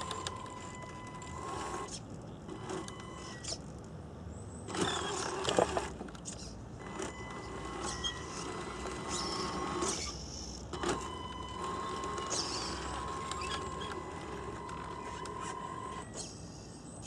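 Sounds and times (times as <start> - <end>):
small electric motor whine: 0.0 - 3.7, 4.7 - 16.6.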